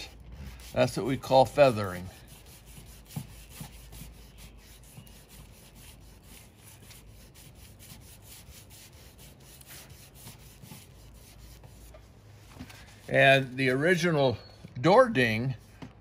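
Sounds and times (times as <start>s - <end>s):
sandpaper rubbing on car door: 0.0s - 13.8s.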